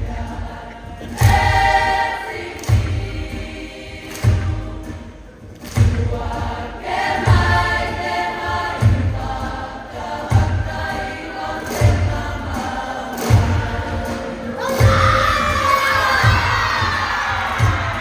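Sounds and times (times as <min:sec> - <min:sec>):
deep slow drum beat: 0:00.0 - 0:11.2, 0:14.8 - 0:18.0
women's choir singing: 0:00.0 - 0:18.0.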